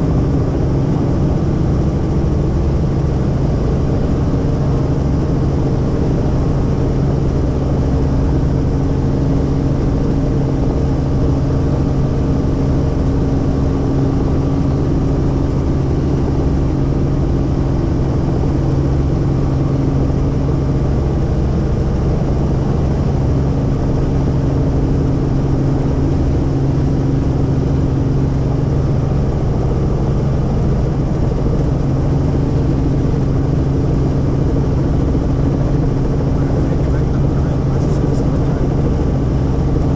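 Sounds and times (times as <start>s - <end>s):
helicopter engine and rotors drone: 0.0s - 39.9s.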